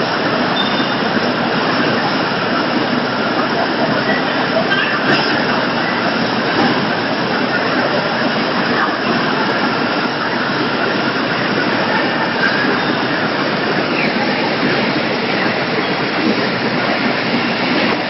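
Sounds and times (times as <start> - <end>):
processing machinery noise: 0.0 - 18.0.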